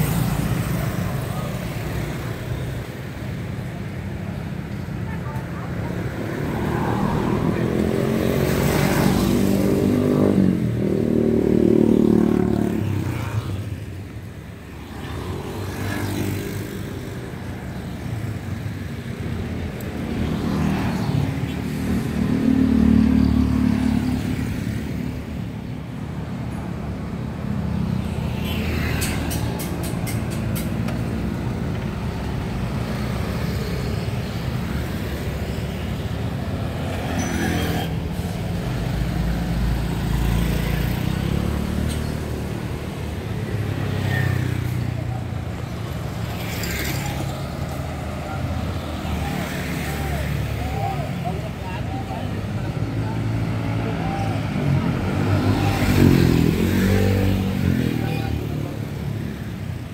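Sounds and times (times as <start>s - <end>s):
cars passing: 0.0s - 59.9s
motor scooters passing: 0.0s - 59.9s.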